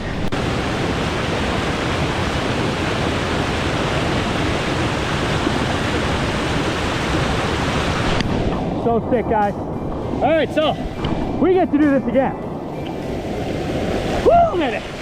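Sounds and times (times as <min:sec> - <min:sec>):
waterfall rushing: 0:00.1 - 0:11.8, 0:12.4 - 0:15.0.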